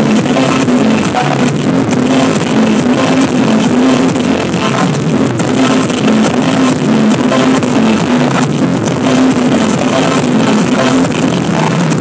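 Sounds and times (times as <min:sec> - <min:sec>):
loud dance music: 0:00.0 - 0:12.0.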